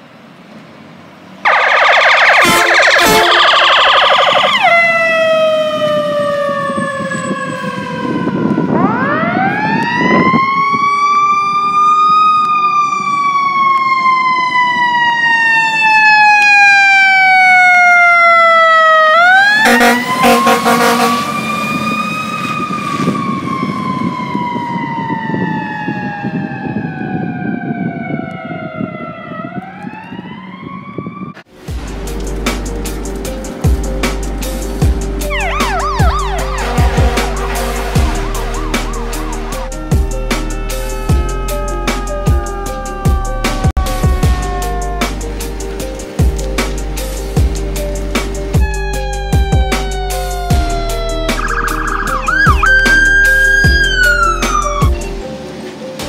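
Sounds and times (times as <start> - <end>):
emergency vehicle sirens: 1.4 - 56.0.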